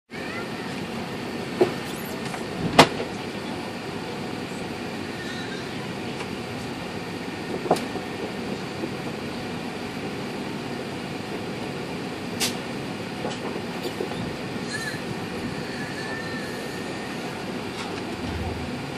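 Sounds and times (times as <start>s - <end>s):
airliner cabin rumble and hiss: 0.1s - 18.9s.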